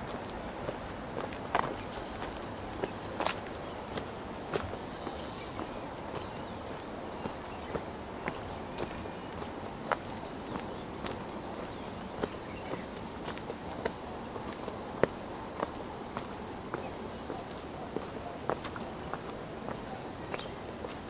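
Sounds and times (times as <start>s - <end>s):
footsteps on stony trail: 0.0s - 21.0s
insect chorus: 0.0s - 21.0s.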